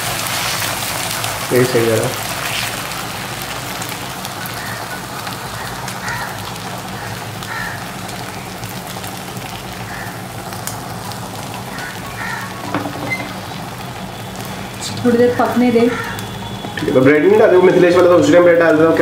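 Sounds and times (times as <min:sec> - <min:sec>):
omelette sizzling in oil: 0:00.0 - 0:19.0.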